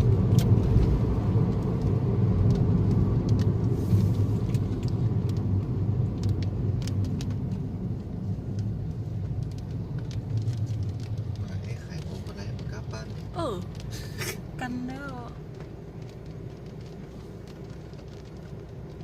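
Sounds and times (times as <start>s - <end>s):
rain tapping on vehicle: 0.0s - 19.0s
vehicle engine and tyres rumbling: 0.0s - 19.0s.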